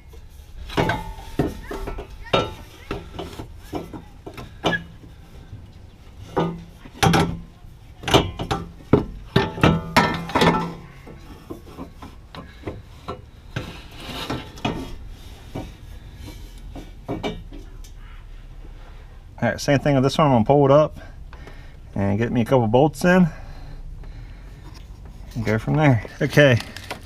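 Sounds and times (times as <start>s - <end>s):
metal exhaust pipe clunking and scraping: 0.0s - 27.0s.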